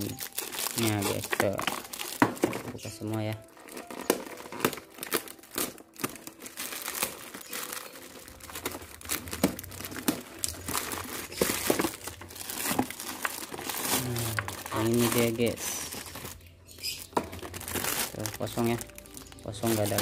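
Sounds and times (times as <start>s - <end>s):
plastic mailer crinkling and tearing: 0.0s - 20.0s.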